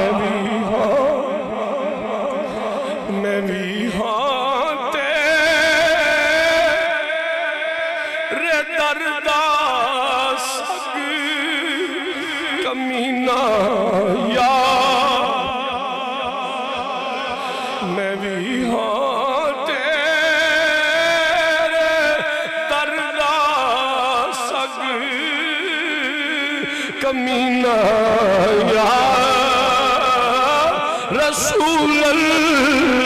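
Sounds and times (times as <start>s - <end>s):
man singing with vibrato: 0.0s - 33.0s.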